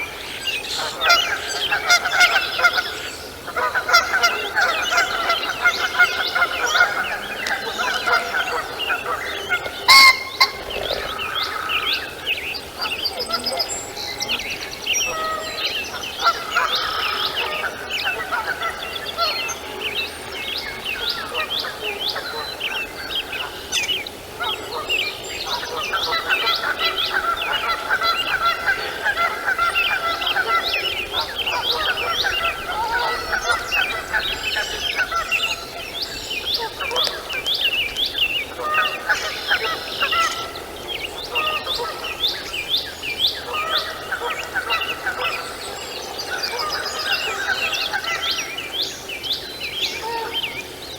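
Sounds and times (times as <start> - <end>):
birds chirping: 0.0 - 50.9
low drawn-out bird calls: 0.0 - 50.9.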